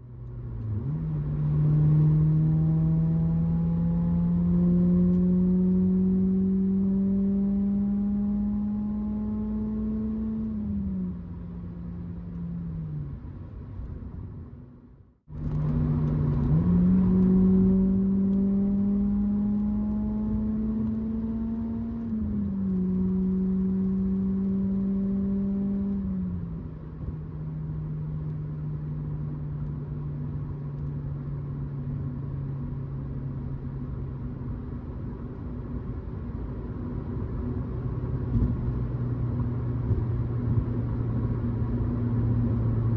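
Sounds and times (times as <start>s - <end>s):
car exhaust accelerating through gears: 0.1s - 13.3s, 15.3s - 42.9s.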